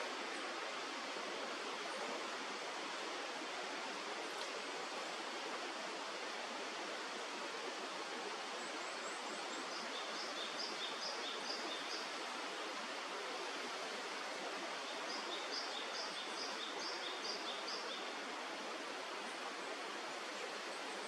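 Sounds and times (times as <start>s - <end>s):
flowing river water: 0.0s - 21.0s.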